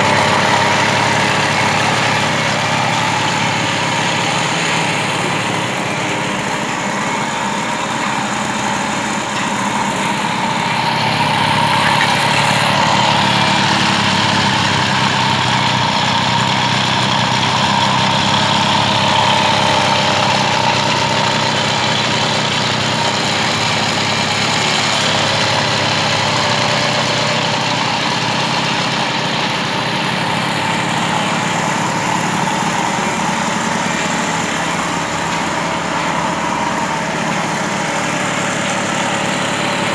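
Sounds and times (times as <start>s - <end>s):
moped engine idling: 0.0s - 39.9s.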